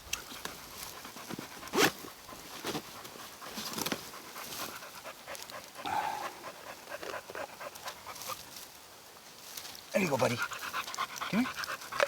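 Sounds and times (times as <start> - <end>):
dog panting: 0.3 - 8.4, 10.1 - 12.0.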